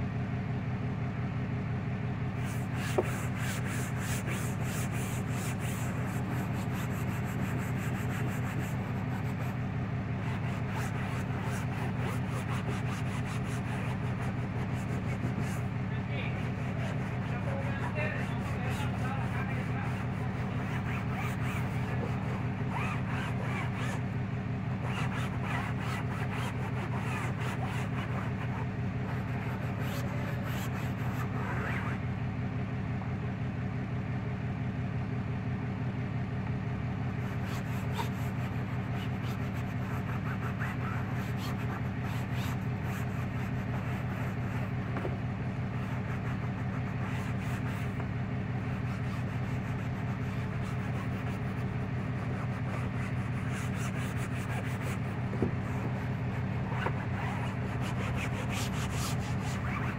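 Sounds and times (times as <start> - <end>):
low machine hum: 0.0 - 59.9
cloth scrubbing fabric: 2.4 - 9.6, 10.2 - 24.2, 24.8 - 32.0, 37.2 - 59.9.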